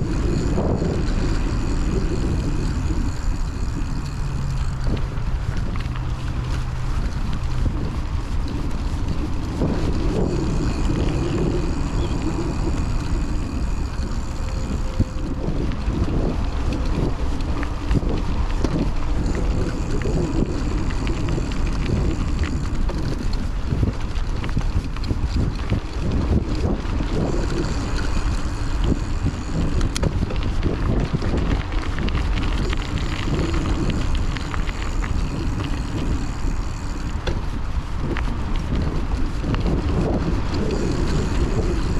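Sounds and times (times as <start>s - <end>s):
bike clicks and rattles: 0.0s - 41.9s
wind buffeting microphone: 0.0s - 41.9s.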